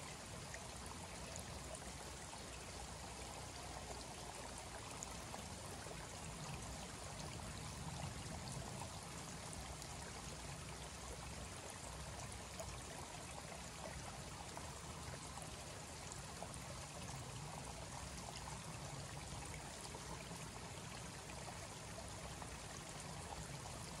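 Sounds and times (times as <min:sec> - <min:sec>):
water trickling over rocks: 0:00.0 - 0:24.0.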